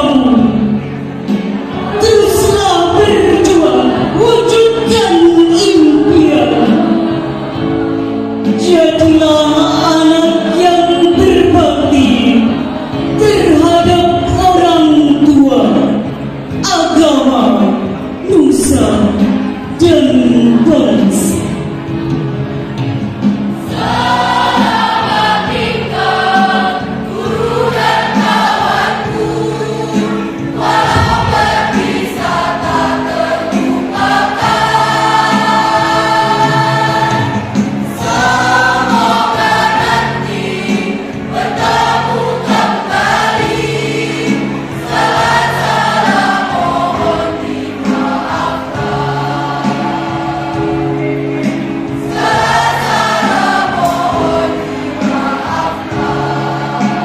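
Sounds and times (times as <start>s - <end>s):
choir singing a slow song: 0.0s - 16.6s, 20.5s - 57.0s
held keyboard chords: 0.0s - 57.0s.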